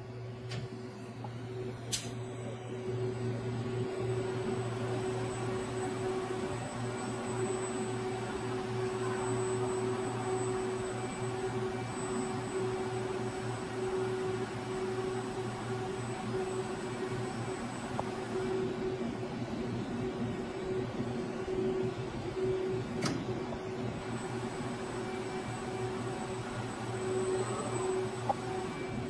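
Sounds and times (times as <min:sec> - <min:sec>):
machinery low drone: 0:00.0 - 0:29.0
thin high whine: 0:00.0 - 0:29.0.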